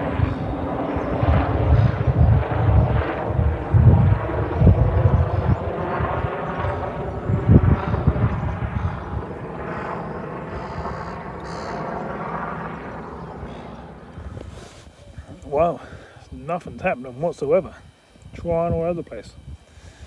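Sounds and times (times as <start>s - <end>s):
helicopter flying overhead: 0.0s - 20.0s.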